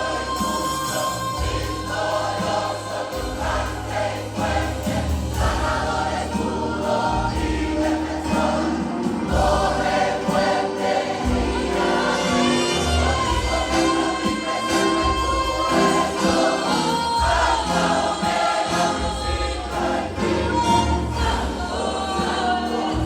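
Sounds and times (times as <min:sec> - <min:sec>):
church choir singing: 0:00.0 - 0:23.0
instrumental accompaniment: 0:00.0 - 0:23.0.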